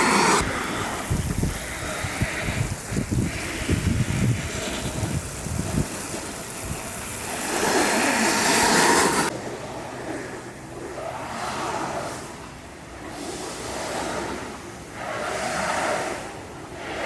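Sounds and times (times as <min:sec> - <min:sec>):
broad rushing hiss: 0:00.0 - 0:09.3, 0:10.8 - 0:17.0
wind buffeting microphone: 0:00.0 - 0:17.0.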